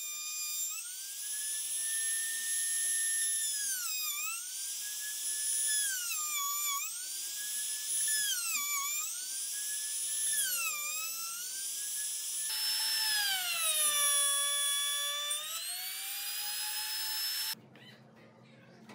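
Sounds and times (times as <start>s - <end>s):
rotary tool whining into wood: 0.0s - 17.6s.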